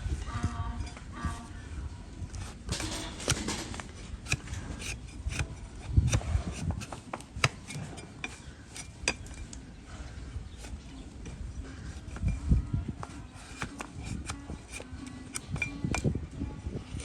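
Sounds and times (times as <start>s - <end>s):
knife scraping hoof: 2.3s - 16.1s.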